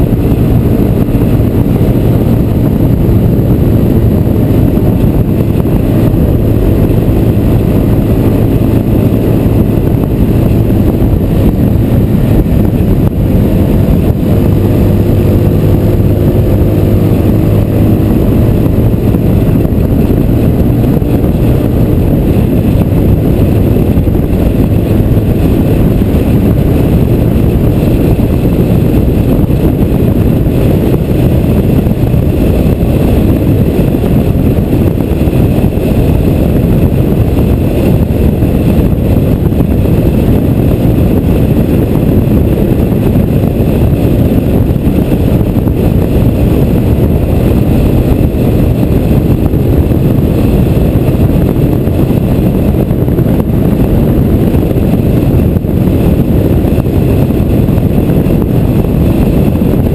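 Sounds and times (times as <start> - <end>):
motorcycle running: 0.0 - 59.9
road noise: 0.0 - 59.9
wind buffeting microphone: 0.0 - 59.9.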